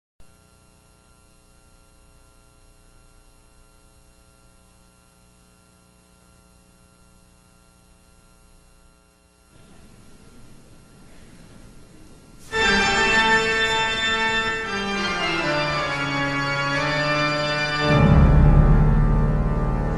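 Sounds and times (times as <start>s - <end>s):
faint electrical mains hum: 0.2s - 19.9s.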